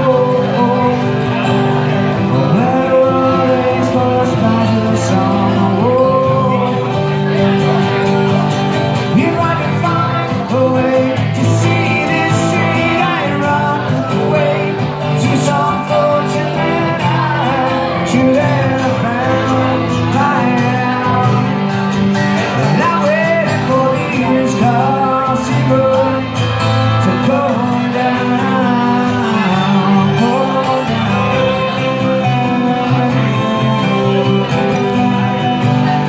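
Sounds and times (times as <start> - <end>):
live band playing: 0.0 - 36.0
person singing: 0.0 - 36.0.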